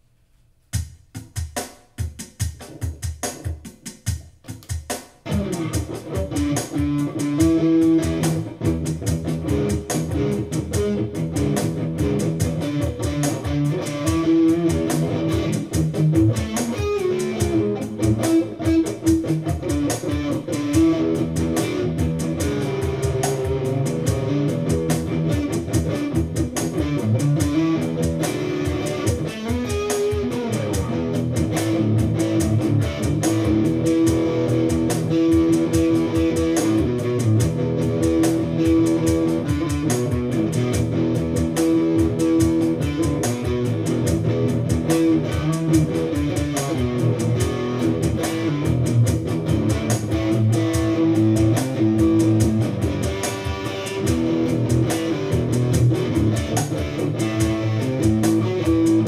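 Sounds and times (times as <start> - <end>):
electric guitar jamming: 1.4 - 59.0.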